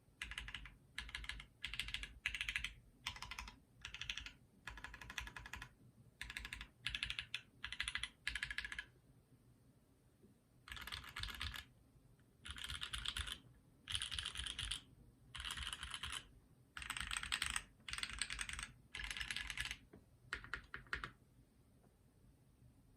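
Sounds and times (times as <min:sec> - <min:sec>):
mechanical keyboard typing: 0:00.2 - 0:08.9, 0:10.7 - 0:11.7, 0:12.4 - 0:21.2.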